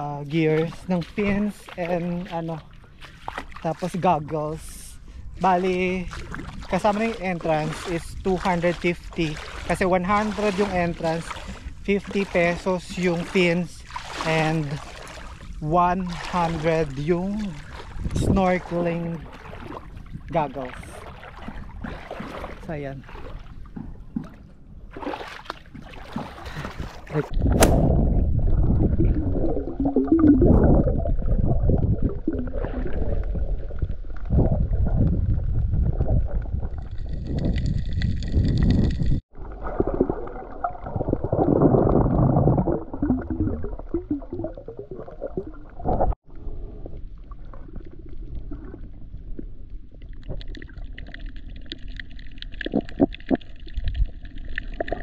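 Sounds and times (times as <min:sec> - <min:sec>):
muffled underwater sloshing: 0:00.0 - 0:55.0.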